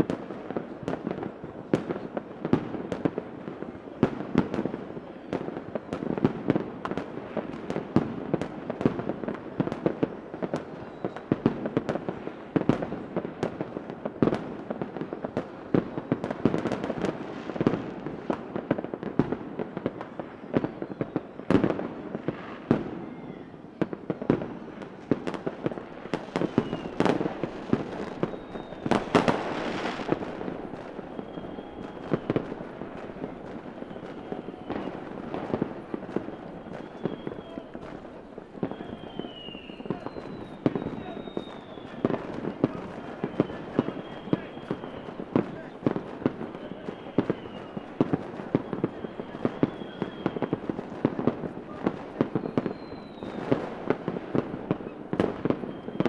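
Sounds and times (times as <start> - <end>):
fireworks bangs and pops: 0.0 - 56.0
fireworks crackling: 0.0 - 56.0
rising firework whistles: 0.0 - 56.0.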